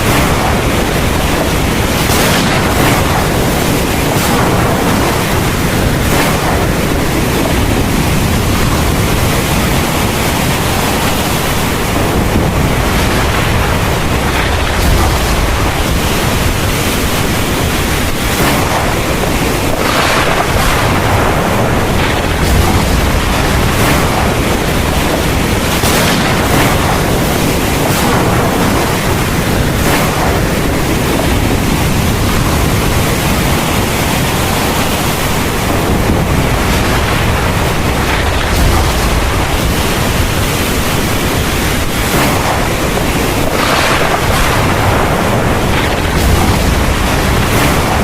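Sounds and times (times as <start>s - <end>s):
heavy rain pouring: 0.0s - 48.0s.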